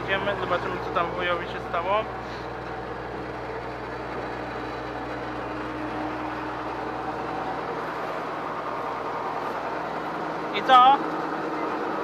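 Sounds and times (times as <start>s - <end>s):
farm machine engine running: 0.0s - 12.0s.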